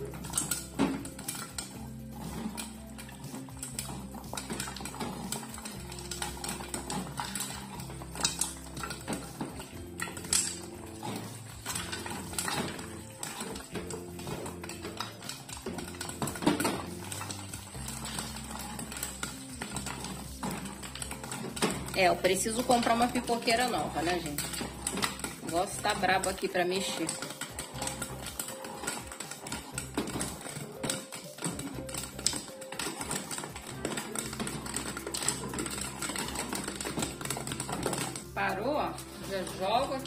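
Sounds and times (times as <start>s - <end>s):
background music: 0.0s - 40.0s
popcorn popping: 0.0s - 40.0s
stirring arm clanking and scraping: 0.0s - 40.0s.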